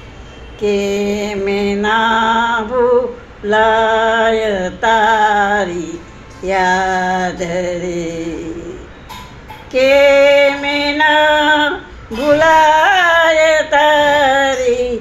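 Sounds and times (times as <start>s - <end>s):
woman singing slowly: 0.6s - 9.0s, 9.6s - 15.0s.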